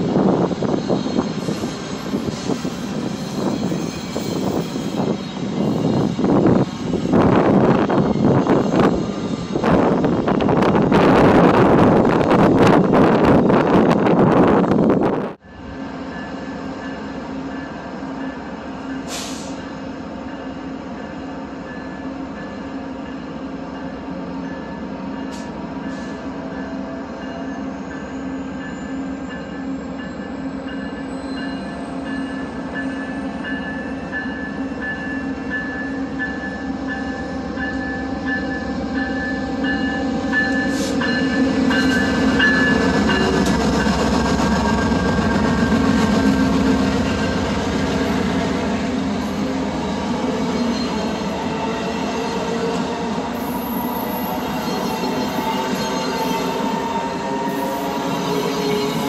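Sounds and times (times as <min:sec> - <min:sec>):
diesel locomotive humming and whining: 0:00.0 - 0:59.0.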